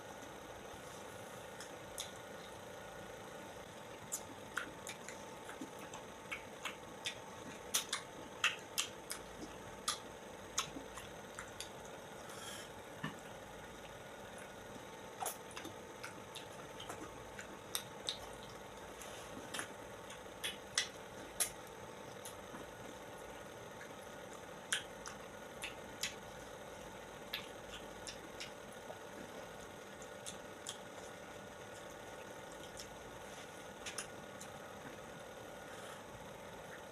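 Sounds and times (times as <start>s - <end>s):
person chewing juicy fruit: 0.0s - 36.9s.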